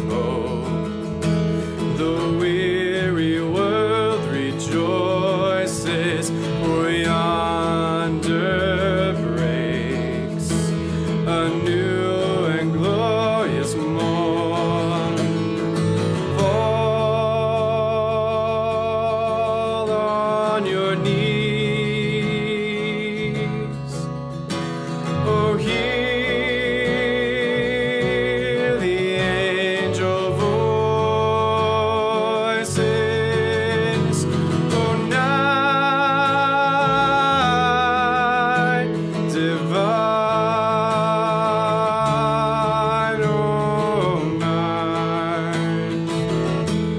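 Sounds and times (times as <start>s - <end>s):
acoustic guitar accompaniment: 0.0s - 46.9s.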